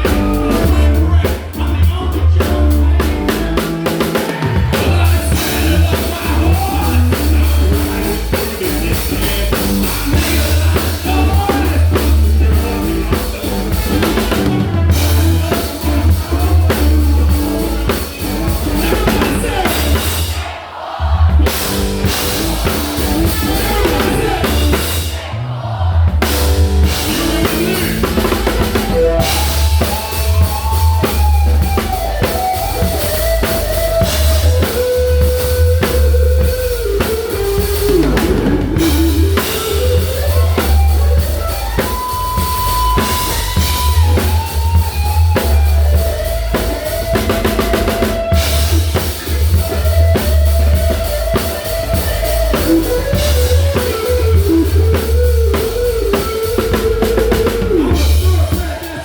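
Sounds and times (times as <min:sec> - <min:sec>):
country-rock song: 0:00.0 - 0:59.0
drum kit playing: 0:00.0 - 0:59.0.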